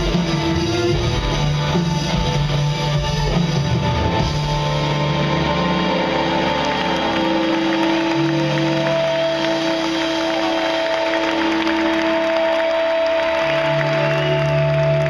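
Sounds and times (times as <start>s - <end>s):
live rock band with guitar: 0.0s - 15.0s.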